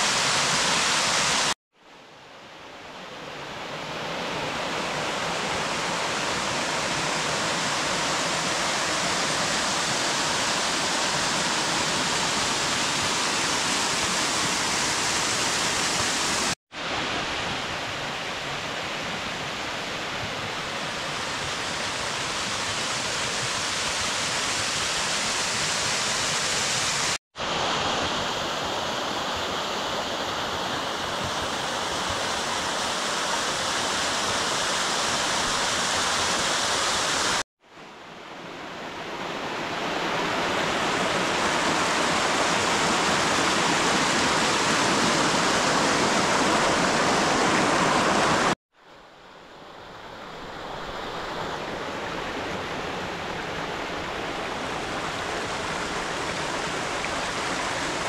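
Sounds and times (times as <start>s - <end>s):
mountain stream rushing: 0.0s - 1.6s, 2.4s - 58.0s.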